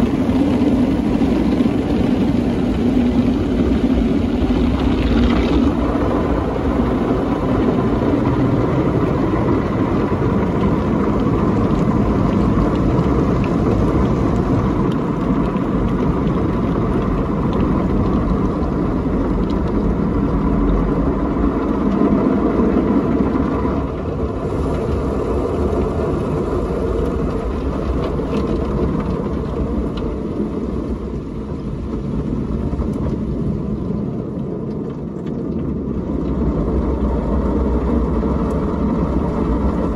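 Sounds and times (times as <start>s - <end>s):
car wash dryer: 0.0s - 39.9s.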